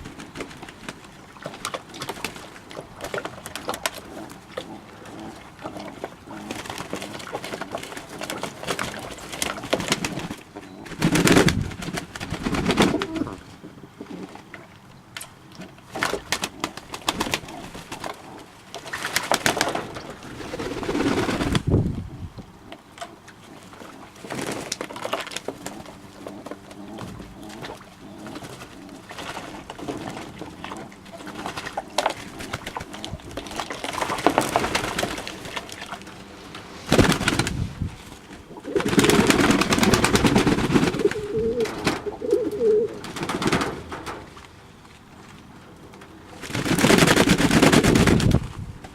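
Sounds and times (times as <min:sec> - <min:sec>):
pigeons cooing: 0:00.0 - 0:14.7, 0:15.4 - 0:44.3.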